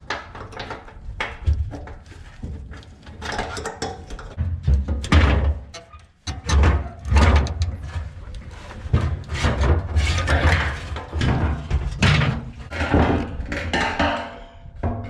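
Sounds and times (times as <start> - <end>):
hand tools clunking and scraping: 0.0 - 15.0.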